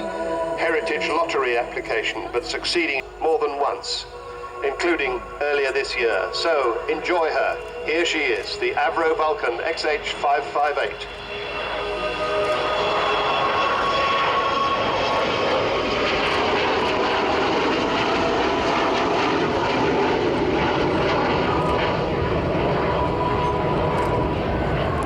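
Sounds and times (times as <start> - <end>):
jet engines roaring with whine: 0.0 - 25.0.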